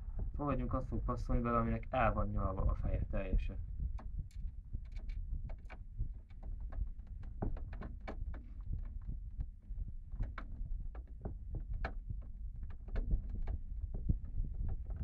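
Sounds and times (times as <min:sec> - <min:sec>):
low handling rumble: 0:00.0 - 0:15.0.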